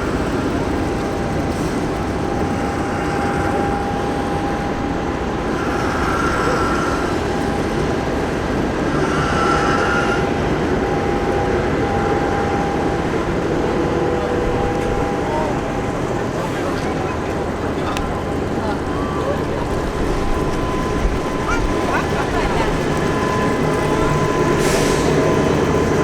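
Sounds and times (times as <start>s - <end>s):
diesel engines droning: 0.0s - 26.0s
thin whine: 0.0s - 26.0s.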